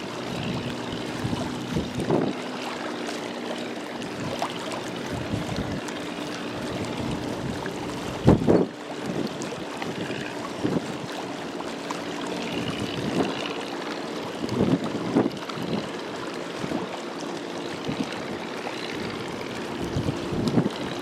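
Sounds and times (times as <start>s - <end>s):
wind buffeting microphone: 0.0s - 17.0s, 17.6s - 21.0s
ship engine hum: 0.0s - 21.0s
water wash: 0.0s - 21.0s.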